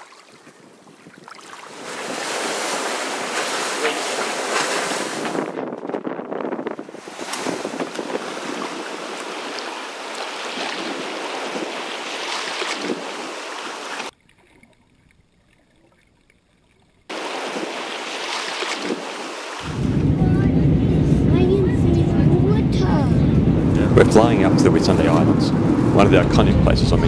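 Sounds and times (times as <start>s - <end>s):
water rushing past hull: 0.0s - 5.7s, 6.4s - 27.0s
wind buffeting microphone: 0.0s - 13.5s, 18.8s - 27.0s.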